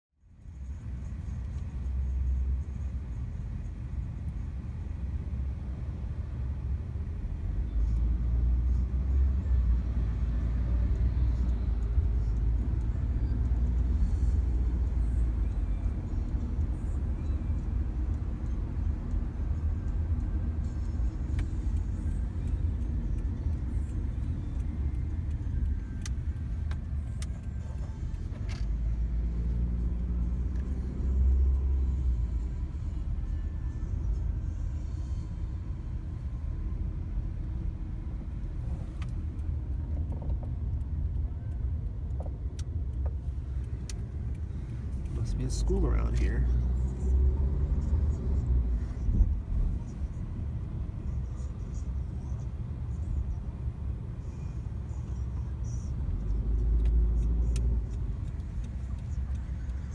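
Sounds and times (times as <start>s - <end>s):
car engine and tyres rumbling: 0.2s - 59.9s.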